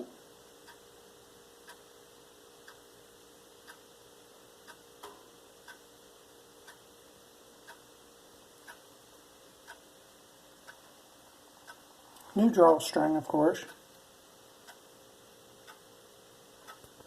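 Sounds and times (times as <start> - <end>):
clock ticking: 0.0 - 17.0
faint steady hum: 0.0 - 17.0.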